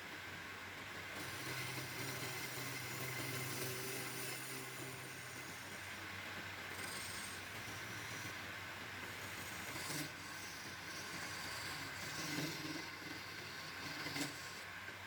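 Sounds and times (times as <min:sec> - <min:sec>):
woodworking power tool running: 0:00.0 - 0:15.0.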